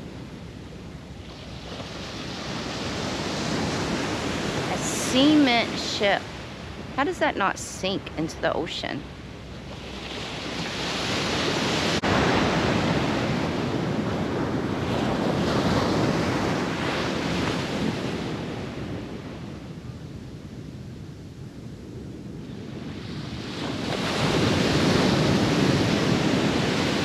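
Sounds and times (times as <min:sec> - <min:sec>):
ocean waves washing on beach: 0:00.0 - 0:27.0
wind on microphone: 0:00.0 - 0:27.0.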